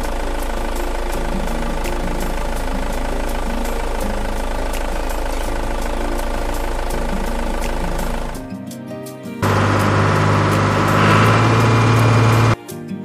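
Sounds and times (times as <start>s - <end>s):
engine idling with ticking clatter: 0.0s - 8.4s, 9.4s - 12.6s.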